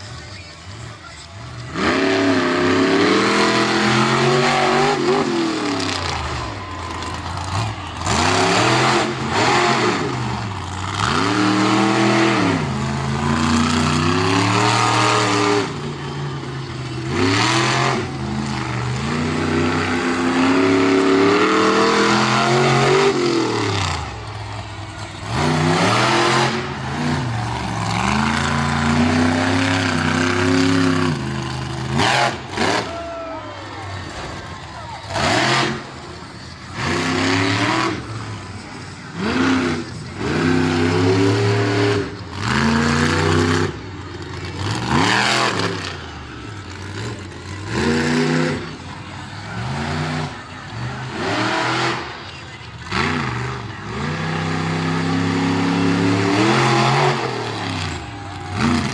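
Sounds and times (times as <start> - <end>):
truck engine revving hard: 0.7 - 58.9.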